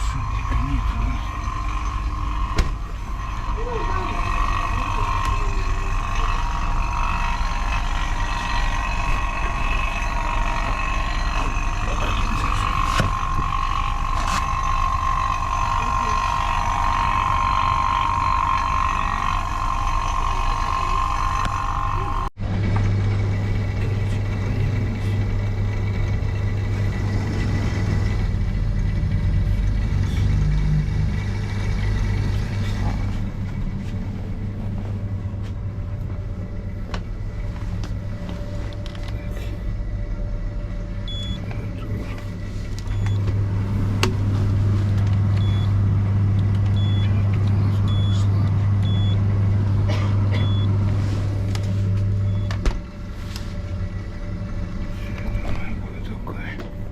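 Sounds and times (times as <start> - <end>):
electric motor hum: 0.0 - 56.9
repair equipment whine: 0.0 - 56.9.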